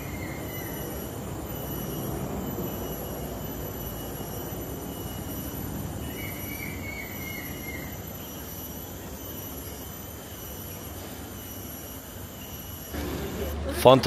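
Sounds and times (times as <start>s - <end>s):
faint high wavering tone: 0.0s - 13.5s.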